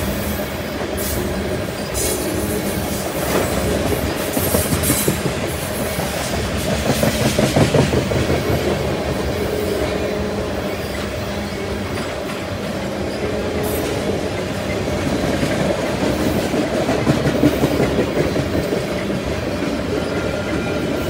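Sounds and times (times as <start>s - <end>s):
steel train wheels on rail: 0.0s - 21.0s.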